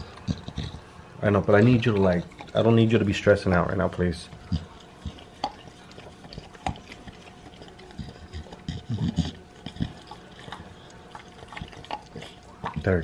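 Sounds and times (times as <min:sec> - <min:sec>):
dog licking puppy: 0:00.0 - 0:13.0.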